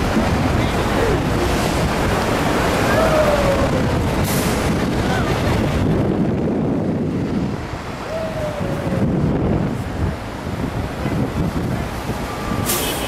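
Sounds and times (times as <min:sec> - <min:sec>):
city traffic roar: 0:00.0 - 0:13.0
wind buffeting microphone: 0:00.0 - 0:13.0.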